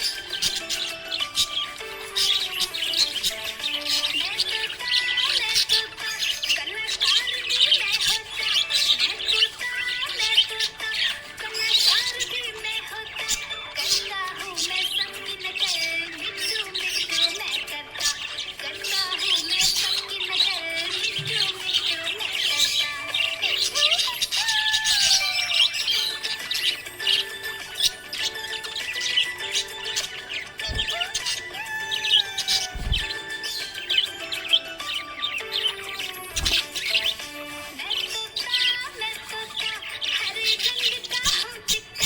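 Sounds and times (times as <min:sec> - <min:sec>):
background music: 0:00.0 - 0:42.0
budgerigar chattering: 0:00.0 - 0:42.0.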